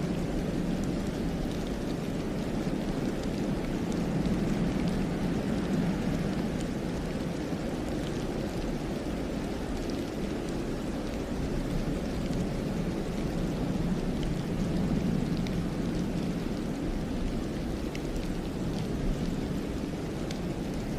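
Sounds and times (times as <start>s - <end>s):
wind rushing through pines: 0.0s - 20.9s.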